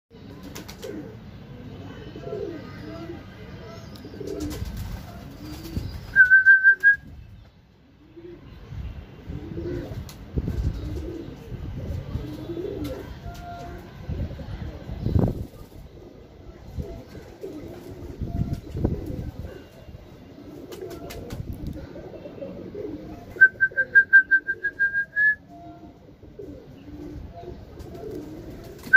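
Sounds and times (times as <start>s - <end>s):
pigeons cooing: 0.5s - 6.3s, 8.0s - 28.9s.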